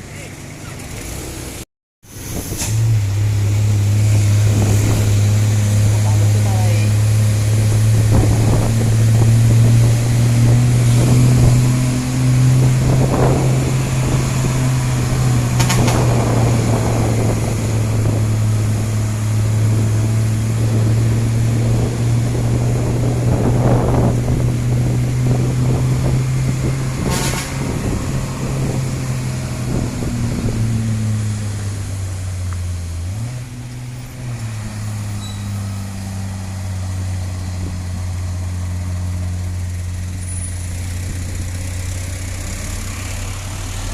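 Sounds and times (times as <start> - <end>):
diesel truck engine labouring: 0.0 - 43.9.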